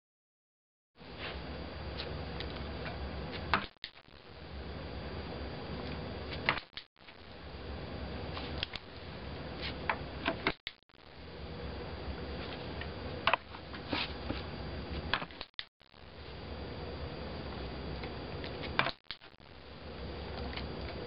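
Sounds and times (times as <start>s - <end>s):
low background hum: 1.0s - 21.0s.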